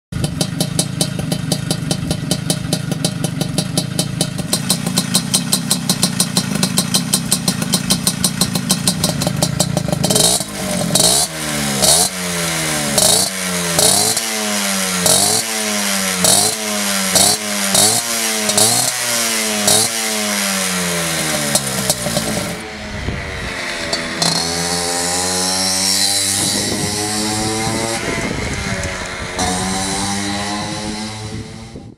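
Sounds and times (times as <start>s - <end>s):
moped engine idling and revving: 0.1s - 31.9s
moped accelerating away: 0.2s - 31.9s.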